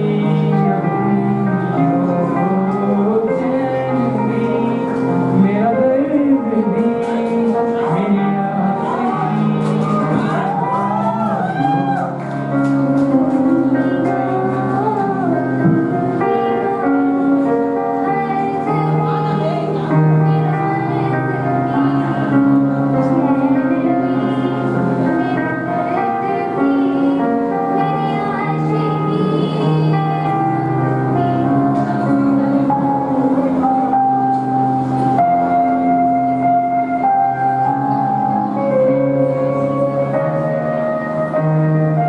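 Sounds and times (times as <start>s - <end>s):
person singing: 0.0s - 42.0s
sustained instrumental chords: 0.0s - 42.0s.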